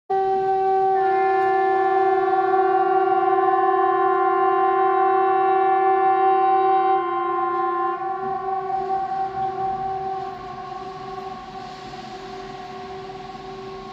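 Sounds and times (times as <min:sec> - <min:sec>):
steady hoarse warning siren: 0:00.1 - 0:13.9.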